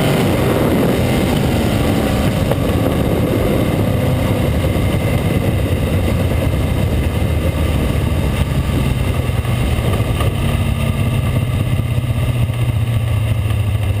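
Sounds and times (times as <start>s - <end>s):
racing car engine running: 0.0s - 14.0s.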